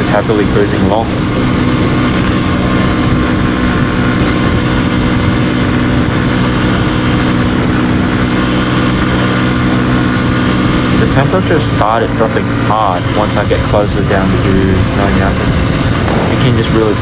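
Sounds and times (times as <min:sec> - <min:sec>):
motorbike engine cruising: 0:00.0 - 0:17.0
wind rushing: 0:00.8 - 0:11.0, 0:13.5 - 0:17.0.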